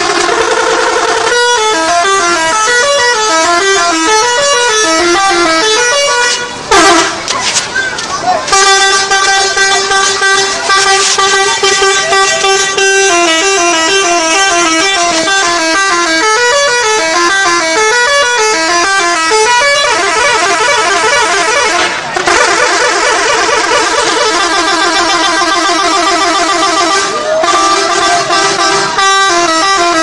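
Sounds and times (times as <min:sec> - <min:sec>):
bus musical horn playing tune: 0:00.0 - 0:07.2, 0:08.5 - 0:30.0.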